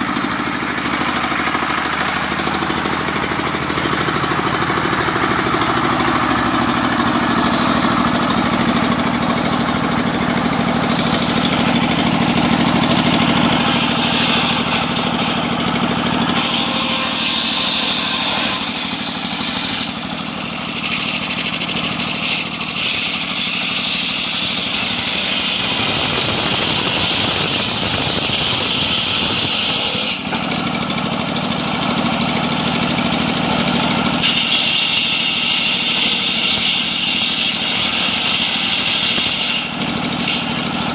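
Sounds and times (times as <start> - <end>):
engine-driven sawmill cutting log: 0.0 - 40.9.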